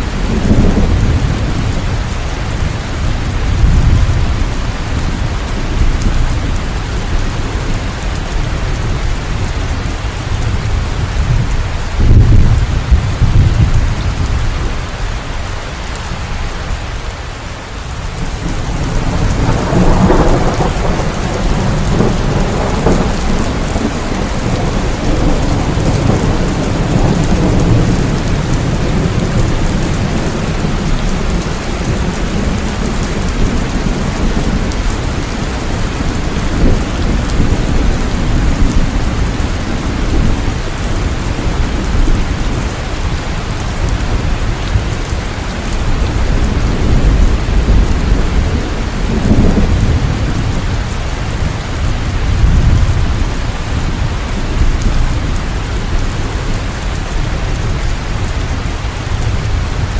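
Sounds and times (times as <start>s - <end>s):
low rolling thunder: 0.0s - 16.3s, 18.0s - 59.9s
steady rain falling: 0.0s - 59.9s.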